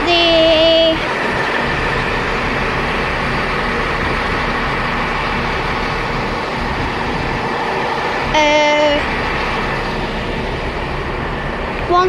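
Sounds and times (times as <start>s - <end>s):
train engine idling hum: 0.0s - 12.0s.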